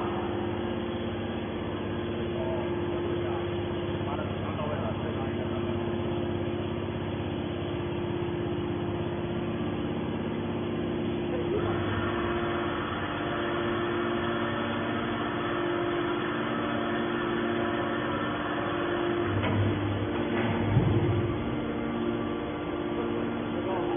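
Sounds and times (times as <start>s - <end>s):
hydraulic baler motor humming: 0.0s - 23.9s.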